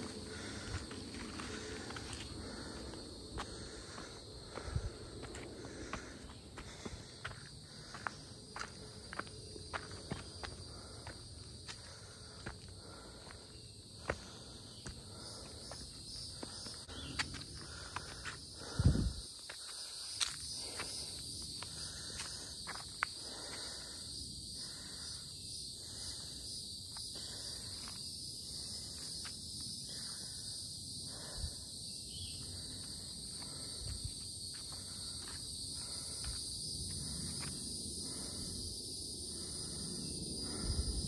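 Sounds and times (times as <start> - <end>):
footsteps on a trail: 0.0 - 24.2, 26.5 - 30.5, 32.1 - 38.6
insects chorus: 0.0 - 41.0.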